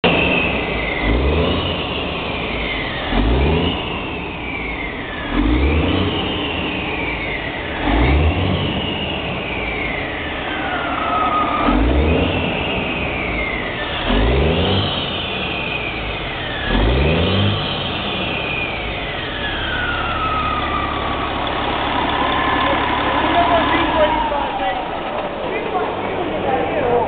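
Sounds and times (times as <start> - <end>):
high falling whistle: 0.0 - 25.4
diesel truck engine revving: 0.0 - 27.0.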